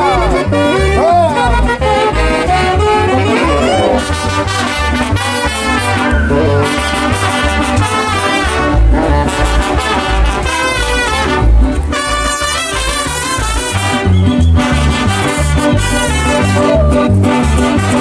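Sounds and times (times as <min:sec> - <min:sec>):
latin dance band with brass: 0:00.0 - 0:18.0
pulsing bass beat: 0:00.0 - 0:18.0.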